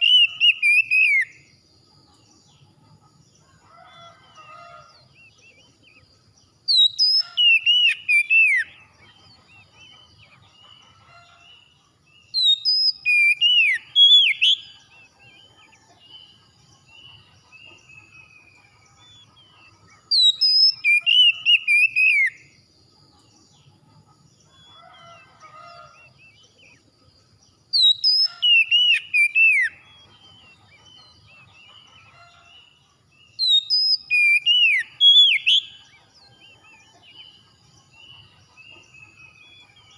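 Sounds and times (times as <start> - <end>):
songbird whistling song: 0.0 - 2.2, 3.6 - 22.6, 27.6 - 39.9
faint bird chirps: 0.0 - 39.9.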